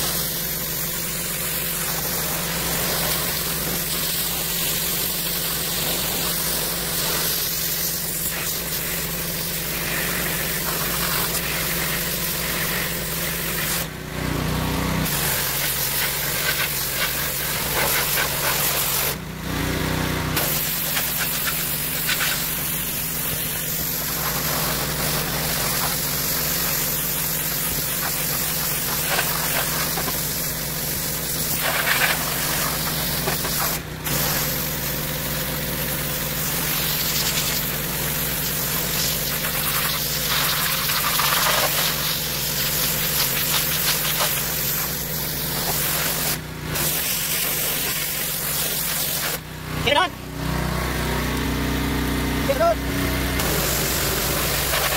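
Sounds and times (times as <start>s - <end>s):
high-pressure spray hissing: 0.0s - 14.0s, 15.0s - 19.2s, 20.4s - 49.5s, 53.4s - 54.9s
pressure washer engine running: 0.0s - 54.9s.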